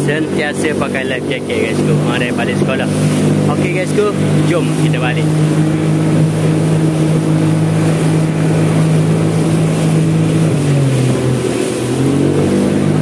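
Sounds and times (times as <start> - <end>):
outboard motor running: 0.0 - 13.0
water wash: 0.0 - 13.0
wind: 0.0 - 13.0.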